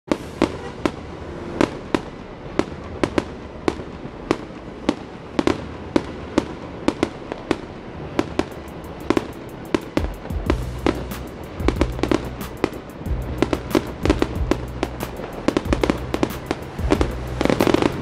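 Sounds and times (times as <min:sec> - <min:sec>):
fireworks bangs: 0:00.1 - 0:18.0.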